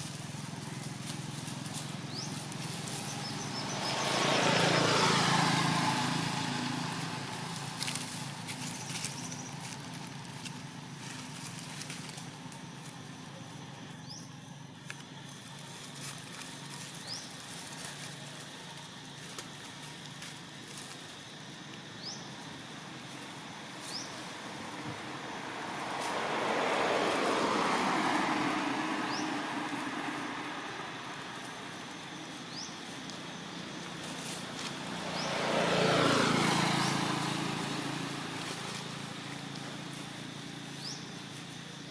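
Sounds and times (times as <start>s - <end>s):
vehicle passing by: 0.0s - 41.9s.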